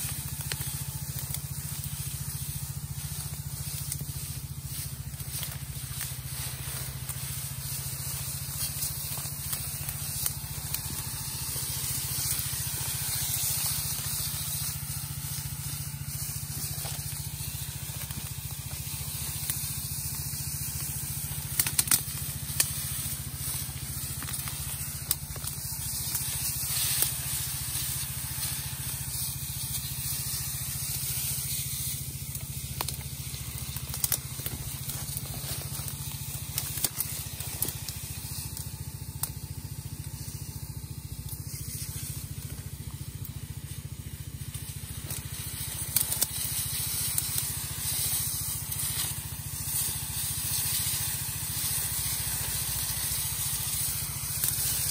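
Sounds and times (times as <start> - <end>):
leaves and stems crackling: 0.0 - 54.9
small engine and pump humming: 0.0 - 54.9
spray hissing from nozzle: 0.0 - 54.9.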